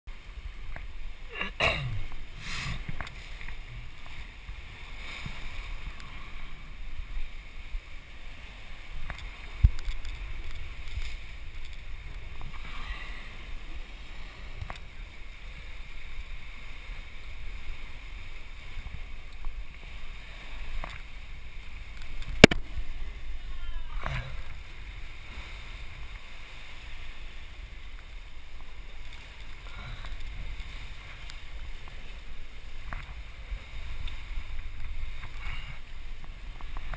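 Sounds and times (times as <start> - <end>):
sea washing: 0.1 - 36.9
wind rumble on microphone: 1.9 - 36.9.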